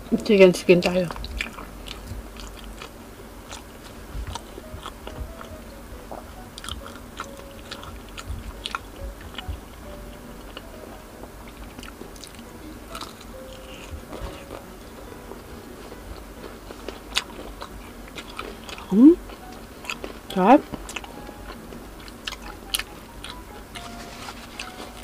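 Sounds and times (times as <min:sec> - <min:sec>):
crunchy chewing: 0:00.8 - 0:25.0.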